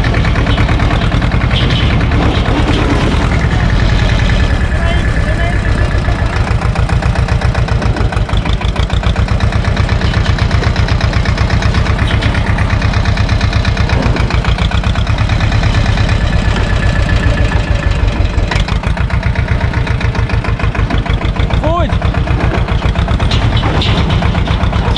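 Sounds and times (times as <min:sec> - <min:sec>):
tractor diesel engine running: 0:00.0 - 0:24.9
tyres on gravel: 0:00.0 - 0:24.9.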